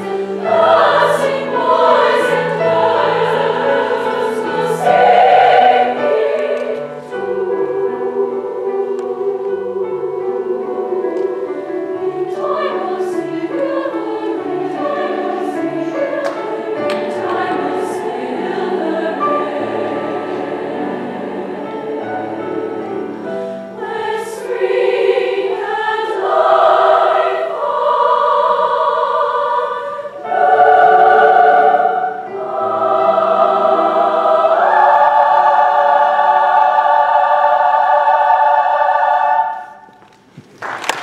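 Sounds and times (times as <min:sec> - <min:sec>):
choir singing sustained chords: 0:00.0 - 0:40.0.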